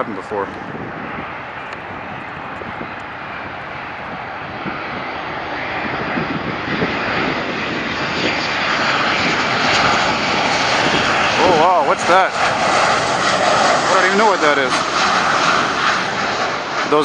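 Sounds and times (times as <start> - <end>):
airliner engines roaring: 0.0 - 17.0.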